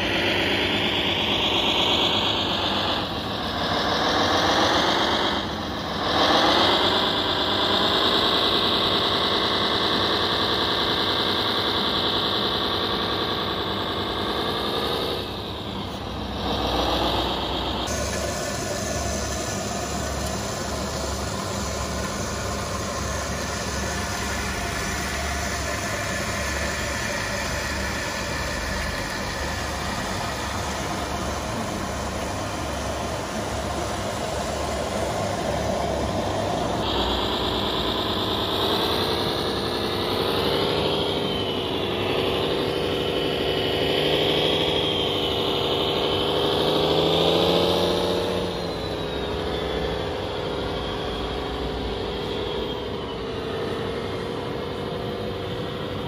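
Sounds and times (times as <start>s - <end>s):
low pulsing engine sound: 0.0s - 56.0s
model truck motor whine: 0.0s - 56.0s.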